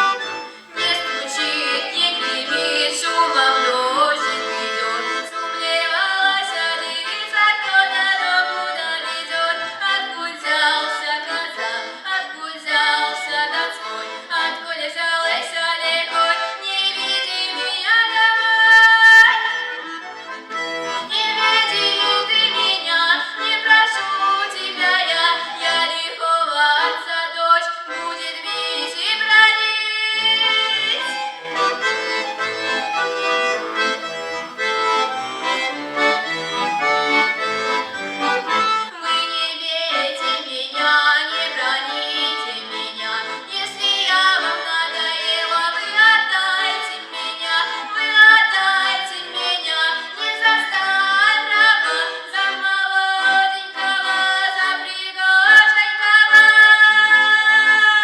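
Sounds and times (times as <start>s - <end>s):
accordion playing folk tune: 0.0s - 58.0s.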